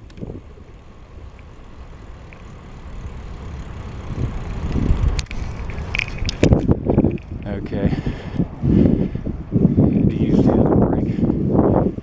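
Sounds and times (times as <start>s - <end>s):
low rumbling road noise: 0.0s - 12.0s.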